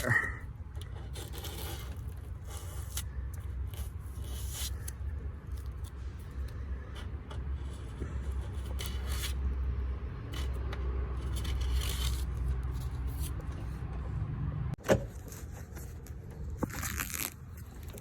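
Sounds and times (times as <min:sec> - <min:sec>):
weather stripping scraping and peeling: 0:00.0 - 0:14.2, 0:15.0 - 0:18.0.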